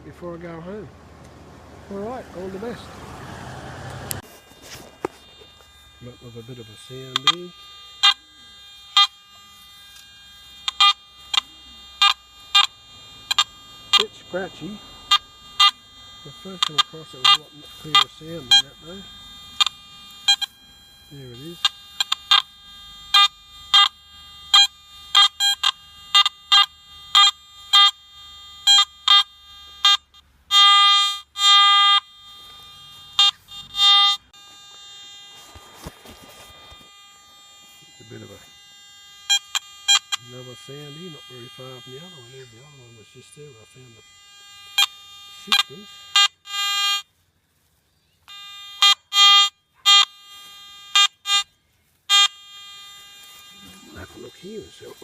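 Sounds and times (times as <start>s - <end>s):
metal detector beeps: 4.1s - 47.1s, 48.2s - 55.0s.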